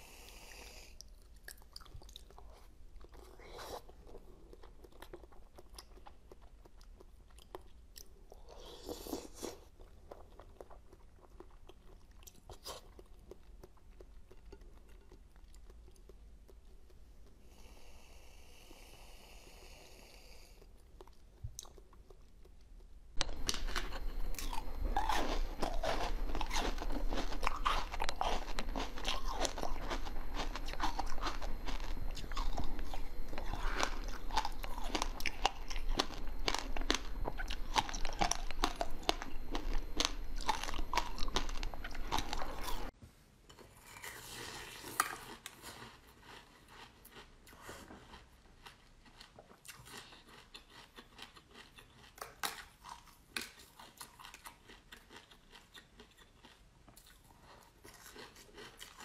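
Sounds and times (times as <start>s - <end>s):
soft chewing: 0.2s - 59.0s
crunchy chewing close up: 1.0s - 17.6s, 20.6s - 43.0s, 43.8s - 59.0s.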